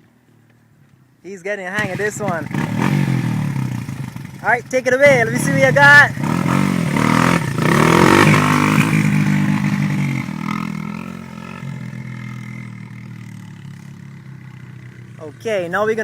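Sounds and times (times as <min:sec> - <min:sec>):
dirt bike engine revving: 0:01.8 - 0:16.0.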